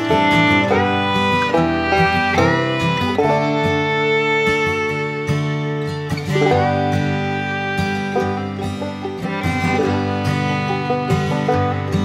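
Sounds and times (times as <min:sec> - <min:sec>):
country tune on plucked strings: 0:00.0 - 0:12.0.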